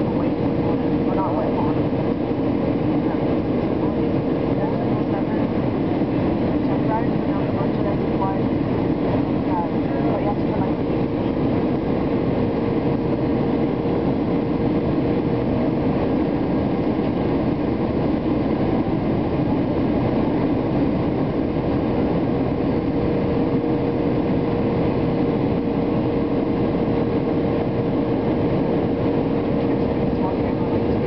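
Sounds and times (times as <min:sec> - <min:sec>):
airplane engines droning: 0:00.0 - 0:31.0
mid-pitched hum: 0:00.0 - 0:31.0.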